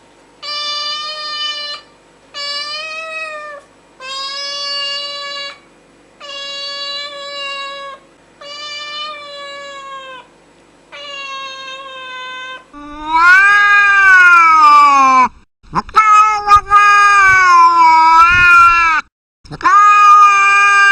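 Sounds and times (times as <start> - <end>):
cat meowing: 0.4 - 1.8, 2.4 - 5.6, 6.2 - 10.3, 10.9 - 15.2, 15.8 - 20.9.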